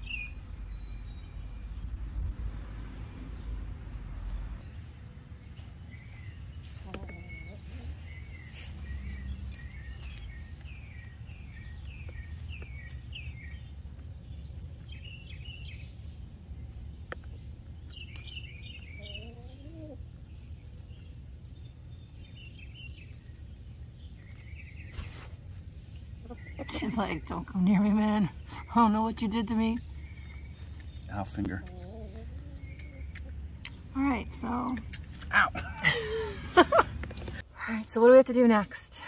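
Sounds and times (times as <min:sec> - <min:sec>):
low background rumble: 0:00.0 - 0:39.0
small birds chirping: 0:00.0 - 0:39.0.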